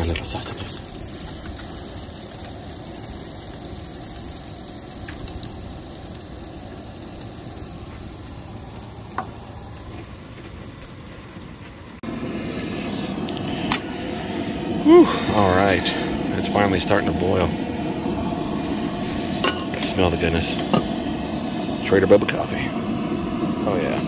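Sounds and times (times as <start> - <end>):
food sizzling in pans: 0.0 - 24.0
gas burners hissing: 0.0 - 24.0.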